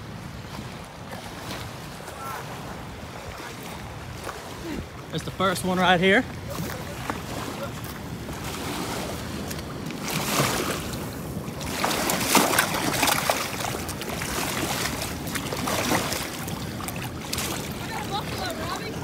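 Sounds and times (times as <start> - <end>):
water lapping at concrete: 0.0 - 19.0.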